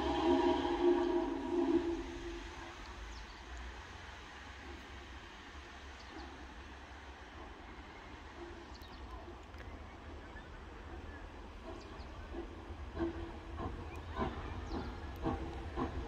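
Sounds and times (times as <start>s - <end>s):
soft hiss of steam: 0.0s - 16.0s
steam locomotive rumble: 0.0s - 16.0s.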